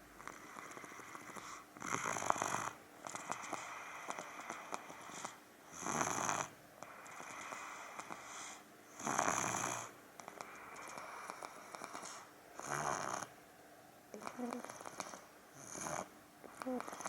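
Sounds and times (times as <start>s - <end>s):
quiet breathing: 0.0s - 13.3s, 14.1s - 17.0s
child snoring: 0.2s - 13.3s, 14.1s - 17.0s.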